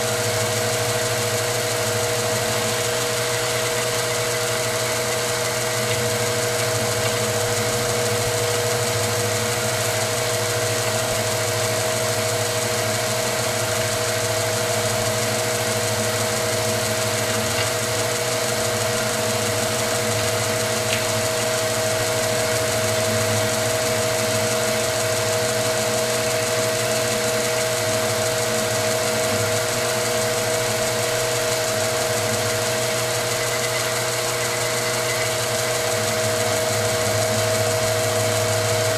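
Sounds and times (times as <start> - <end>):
milling machine cutting metal: 0.0 - 38.9.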